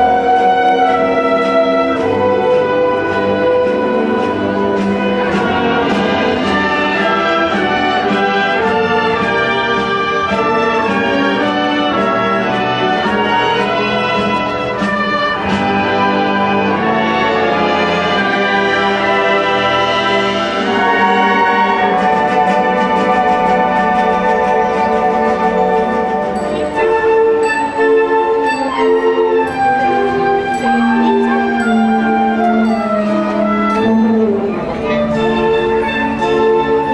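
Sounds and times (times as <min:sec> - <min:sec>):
brass band playing chords: 0:00.0 - 0:36.9.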